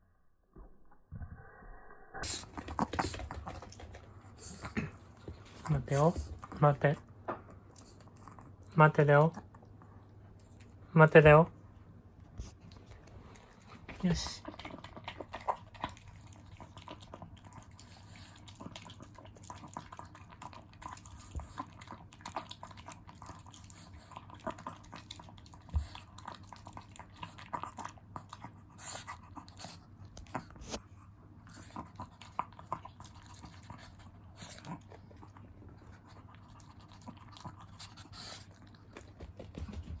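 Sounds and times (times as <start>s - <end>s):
dog chewing and smacking: 2.2s - 11.3s, 12.4s - 40.0s.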